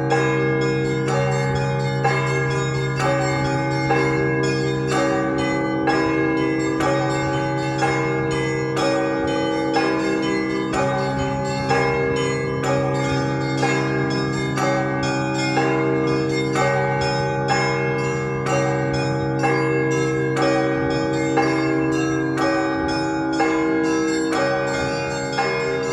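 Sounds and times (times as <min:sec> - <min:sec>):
heavy bell strikes: 0:00.0 - 0:25.9
low bell hum: 0:00.0 - 0:25.9
small church bells pealing: 0:00.0 - 0:25.9.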